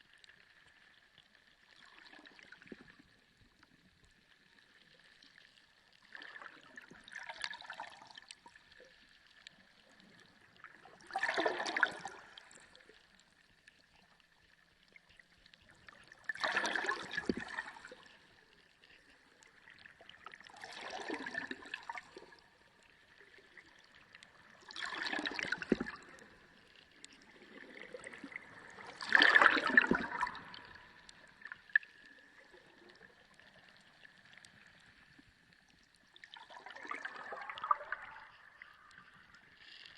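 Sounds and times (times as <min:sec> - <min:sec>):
sea water sloshing and gurgling: 0:00.0 - 0:39.9.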